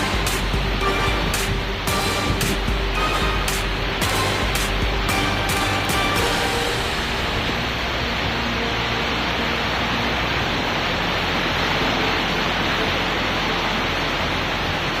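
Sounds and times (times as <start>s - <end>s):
heavy rain pouring: 0.0s - 15.0s
strong wind: 0.0s - 15.0s.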